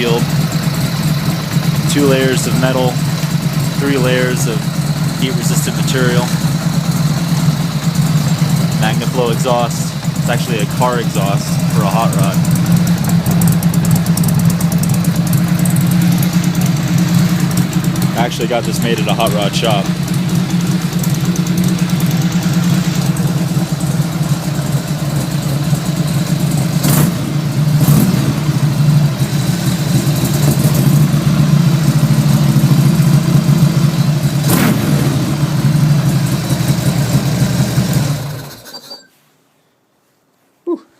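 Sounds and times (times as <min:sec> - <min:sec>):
motorcycle engine idling loudly: 0:00.0 - 0:38.6.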